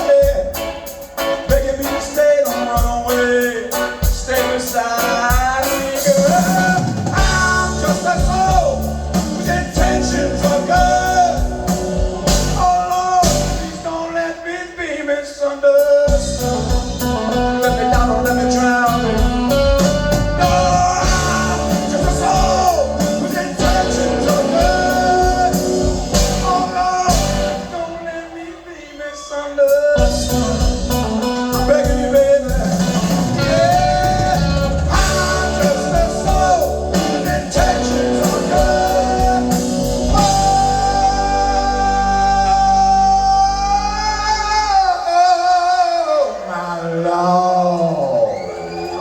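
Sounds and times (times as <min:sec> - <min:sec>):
blues-rock band playing: 0:00.0 - 0:14.0, 0:16.1 - 0:28.1, 0:29.7 - 0:44.9.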